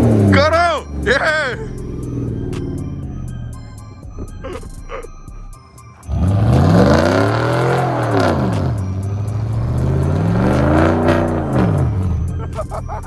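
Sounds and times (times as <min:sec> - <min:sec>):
car engine revving: 0:00.0 - 0:13.0
car wheels spinning: 0:00.0 - 0:13.0.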